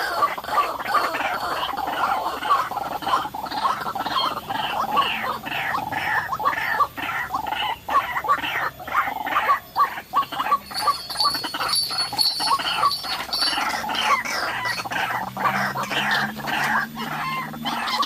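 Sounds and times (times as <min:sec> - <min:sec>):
waterhen croaking calls: 0:00.0 - 0:18.0.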